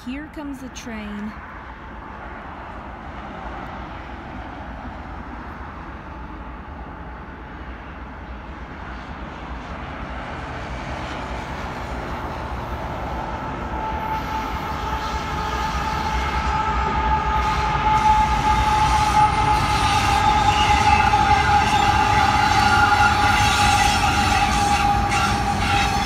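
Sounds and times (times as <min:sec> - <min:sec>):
freight train rumble: 0:00.0 - 0:26.0
train whine: 0:00.0 - 0:26.0.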